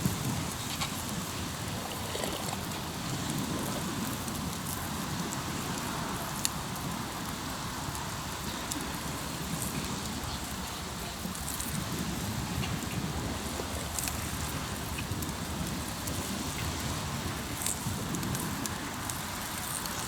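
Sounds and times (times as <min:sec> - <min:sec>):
campfire crackling and popping: 0:00.0 - 0:20.0
waves on the shore: 0:00.0 - 0:20.0.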